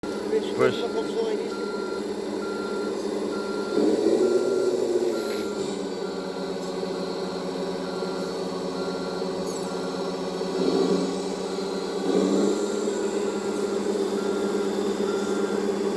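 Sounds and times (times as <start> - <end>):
simulated diesel engine running: 0.0 - 15.9
reversing beeps: 0.5 - 15.9.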